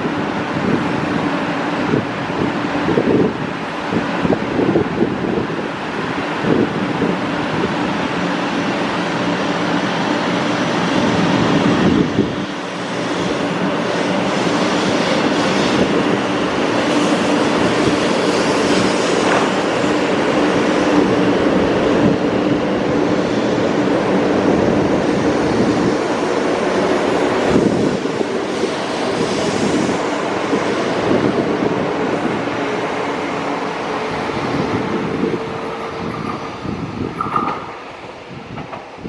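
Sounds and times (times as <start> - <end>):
train pulling away: 0.0 - 39.0.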